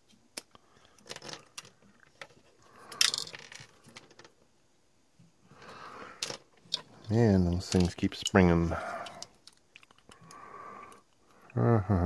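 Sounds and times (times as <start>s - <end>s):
small plastic parts clicking and rattling: 0.0s - 4.5s, 6.1s - 11.3s.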